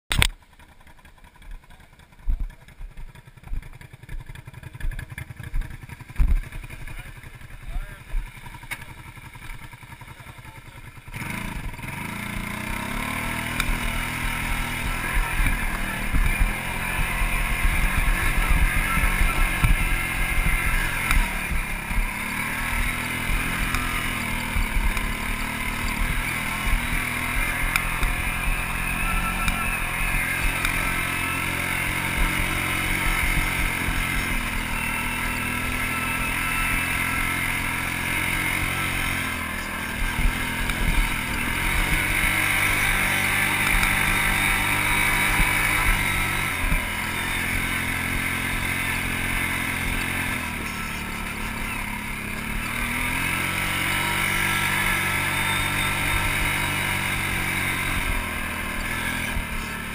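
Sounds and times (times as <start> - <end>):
atv engine revving: 0.1 - 59.9.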